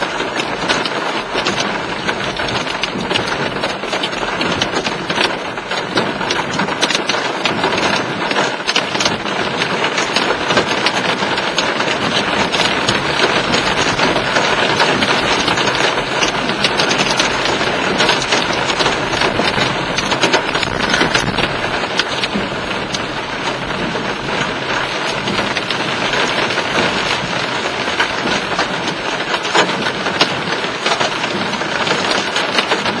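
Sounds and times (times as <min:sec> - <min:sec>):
hail clattering on a vehicle: 0:00.0 - 0:33.0.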